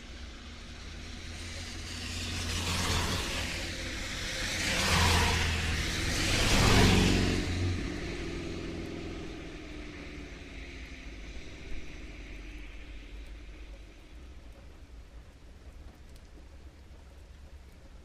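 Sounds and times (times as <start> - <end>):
tyres hissing on wet road: 0.0 - 14.8
low engine drone: 0.0 - 15.4
rain hissing: 0.0 - 18.0.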